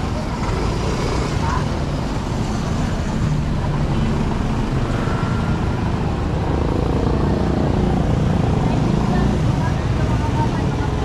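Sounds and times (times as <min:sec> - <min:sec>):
motorcycle engines running: 0:00.0 - 0:11.0
street traffic noise: 0:00.0 - 0:11.0.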